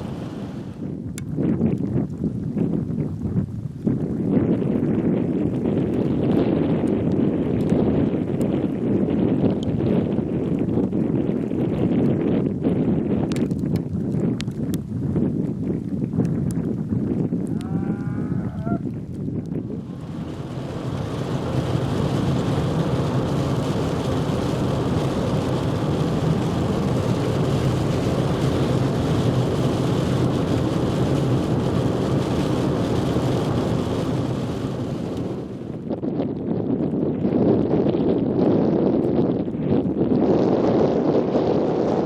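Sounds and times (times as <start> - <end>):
wind rushing across microphone: 0.0 - 42.0.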